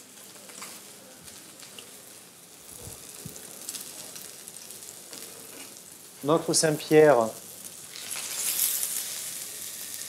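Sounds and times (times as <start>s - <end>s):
fish fillet sizzling in oil: 1.3s - 10.0s.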